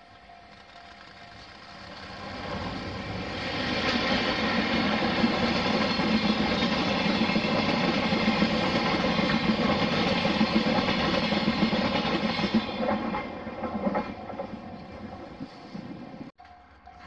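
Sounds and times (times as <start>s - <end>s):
freight train rumbling by: 0.0s - 16.3s.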